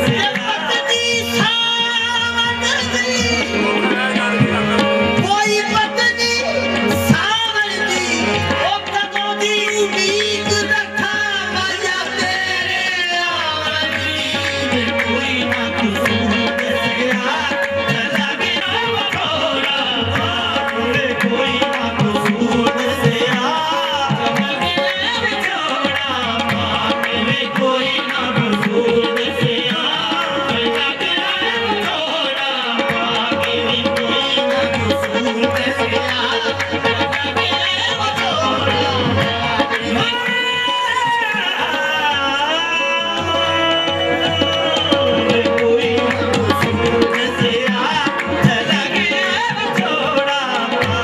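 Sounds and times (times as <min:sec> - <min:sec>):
harmonium: 0:00.0 - 0:51.0
lead and chorus singers: 0:06.6 - 0:51.0.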